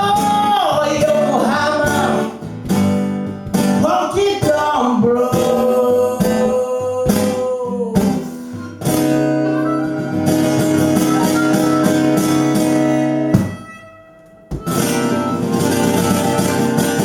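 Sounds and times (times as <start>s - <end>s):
blues guitar playing: 0.0s - 5.0s, 8.0s - 17.0s.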